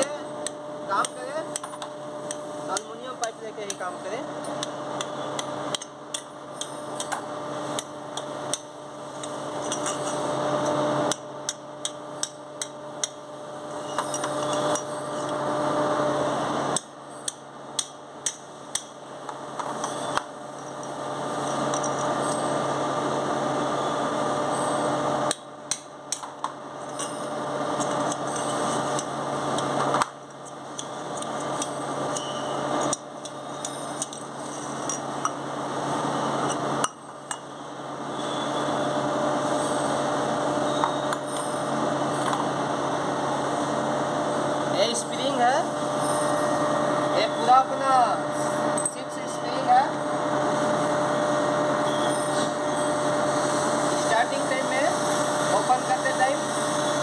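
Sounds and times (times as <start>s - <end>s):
steady background hum: 0.0s - 57.0s.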